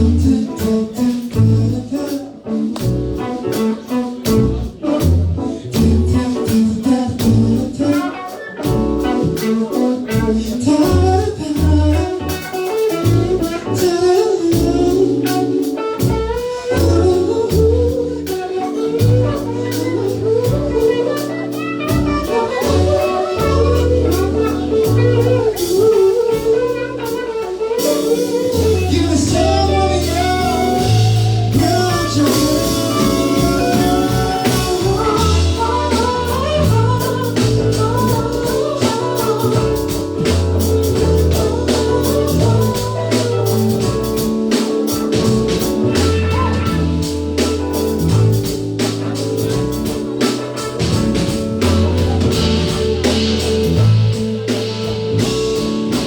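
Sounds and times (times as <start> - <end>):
bass guitar: 0.0 - 56.0
drum kit beat: 0.0 - 56.0
person singing: 0.0 - 56.0.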